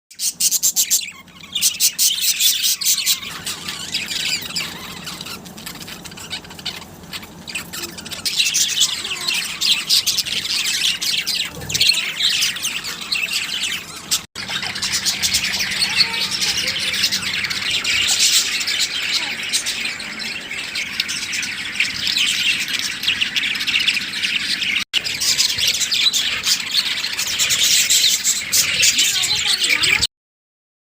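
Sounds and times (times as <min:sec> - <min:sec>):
birds chirping and squawking: 0:00.1 - 0:30.1.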